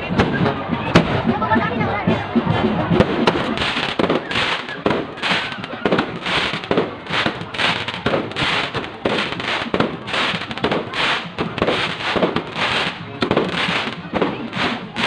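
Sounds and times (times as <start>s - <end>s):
fireworks bangs: 2.5s - 15.0s.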